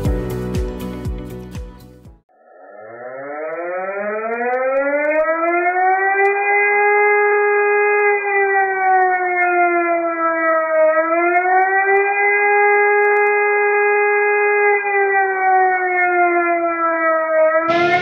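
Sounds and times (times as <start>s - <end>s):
fire siren wailing: 2.3s - 18.0s.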